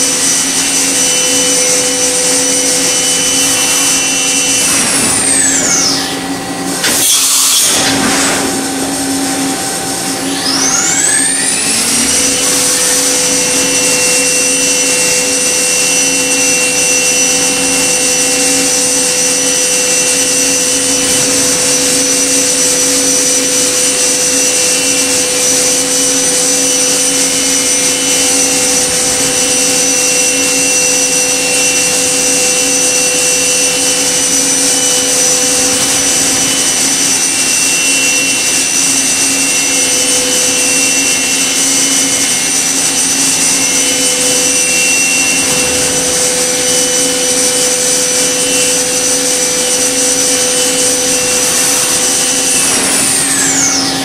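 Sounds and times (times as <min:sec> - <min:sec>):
machining spindle whine: 0:00.0 - 0:54.0.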